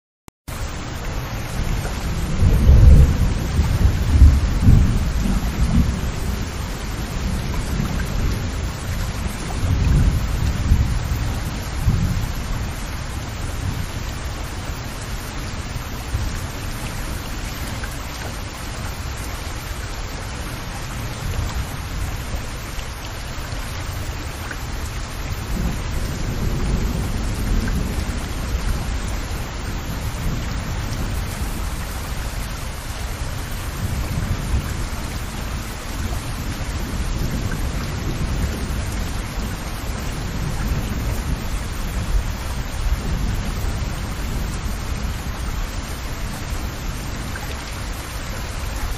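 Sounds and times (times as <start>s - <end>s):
rain on leaves and ground: 0.5s - 48.9s.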